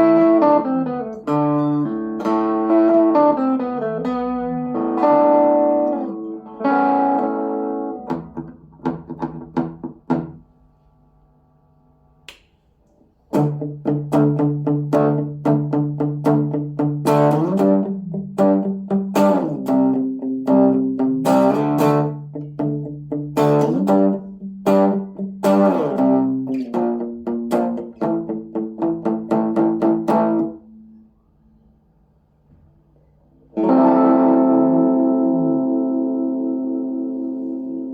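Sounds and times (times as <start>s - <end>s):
electric guitar chords and notes: 0.0s - 10.5s, 13.3s - 31.0s, 33.5s - 37.9s.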